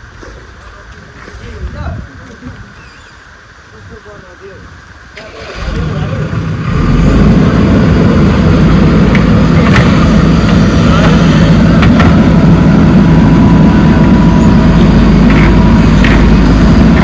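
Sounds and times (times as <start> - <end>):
diesel engine running: 2.2 - 17.0.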